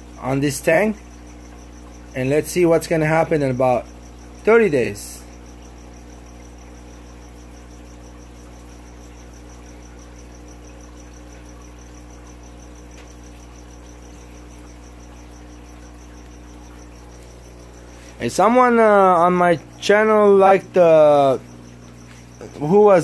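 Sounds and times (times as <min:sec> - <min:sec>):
low electrical pump hum: 0:00.0 - 0:23.0.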